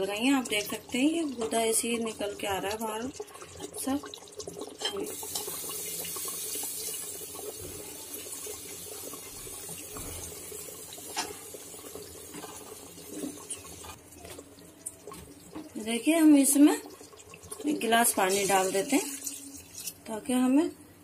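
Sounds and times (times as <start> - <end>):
water running from tap: 0.0 - 20.0.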